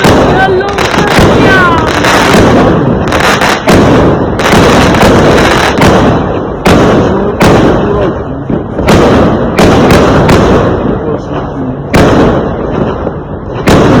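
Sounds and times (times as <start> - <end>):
fireworks bangs: 0.0 - 14.0
fireworks rumble and crackle: 0.0 - 14.0.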